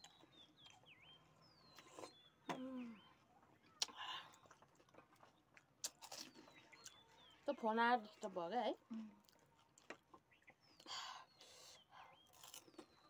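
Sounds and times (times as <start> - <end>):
people crunching crisp food: 0.0 - 13.0
small birds chirping: 0.0 - 13.0.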